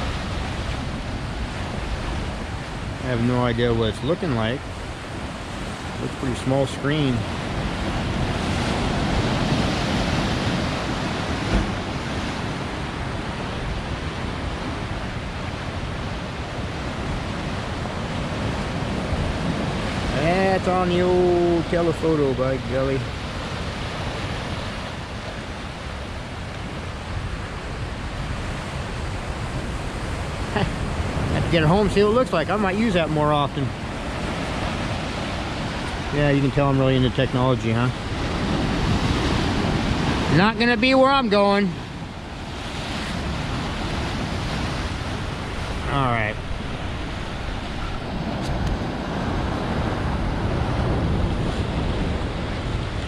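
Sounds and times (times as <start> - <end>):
ocean surf against rocks: 0.0 - 53.0
wind rumbling on microphone: 0.0 - 53.0.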